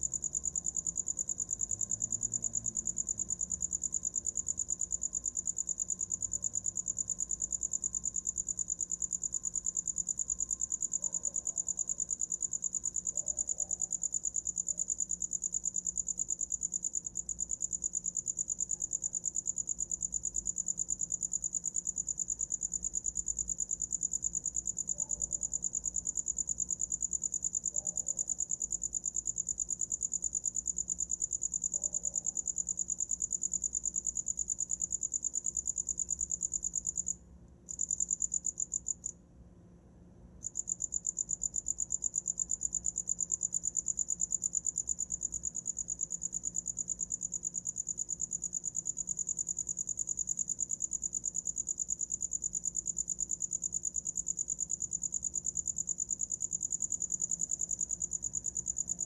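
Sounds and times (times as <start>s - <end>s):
cricket chirping: 0.0s - 39.2s, 40.4s - 59.0s.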